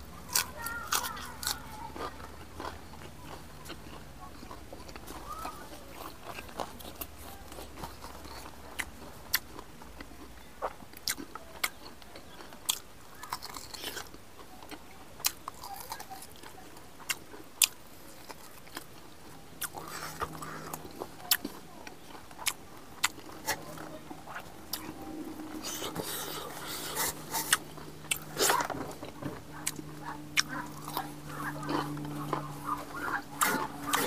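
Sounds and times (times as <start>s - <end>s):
man chewing food: 0.0s - 34.0s.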